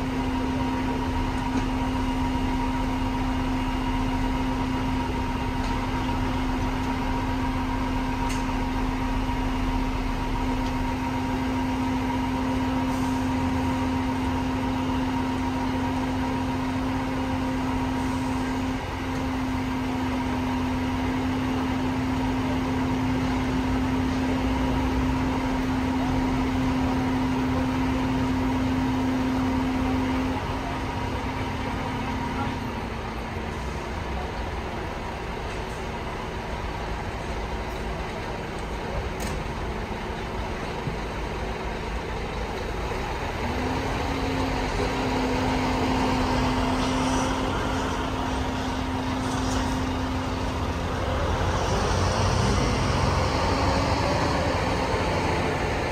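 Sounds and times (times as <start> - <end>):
crane engine and hydraulic whine: 0.0 - 55.9.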